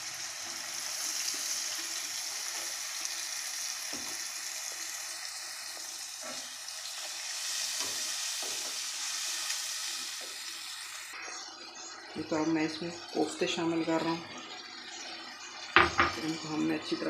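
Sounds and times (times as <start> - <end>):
masala sizzling in hot oil: 0.0 - 17.0.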